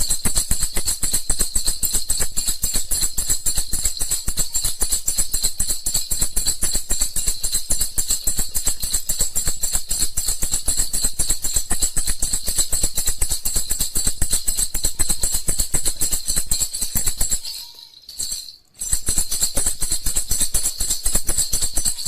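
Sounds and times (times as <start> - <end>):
baby rattle shaken rapidly: 0.0 - 22.0.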